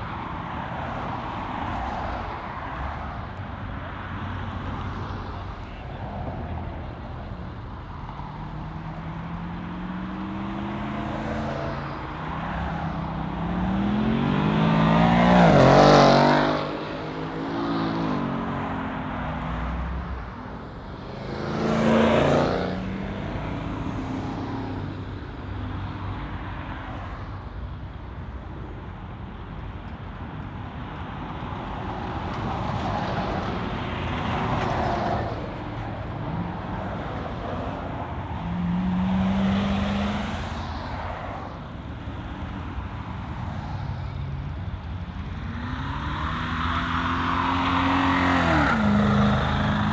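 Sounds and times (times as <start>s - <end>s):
cars driving past with loud exhausts: 0.0s - 49.9s.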